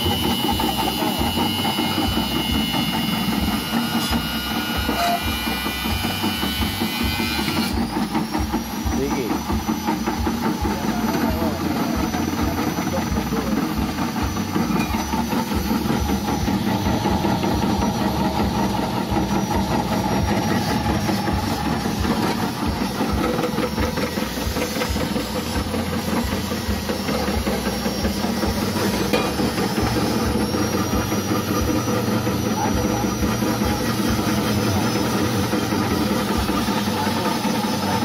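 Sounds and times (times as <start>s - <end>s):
slicing machine motor humming: 0.0s - 38.0s.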